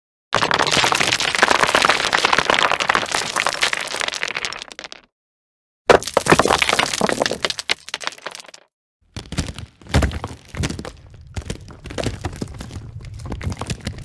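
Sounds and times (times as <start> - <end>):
rock and rubble clattering: 0.4 - 5.1, 5.9 - 14.0.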